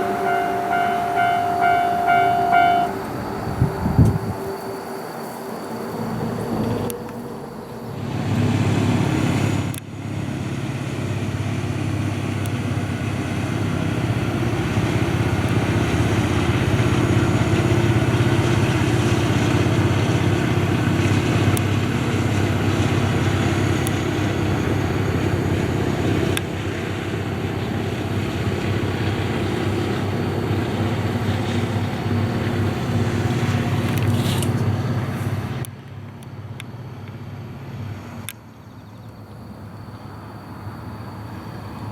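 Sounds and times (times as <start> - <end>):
train rumbling past: 0.0 - 41.9.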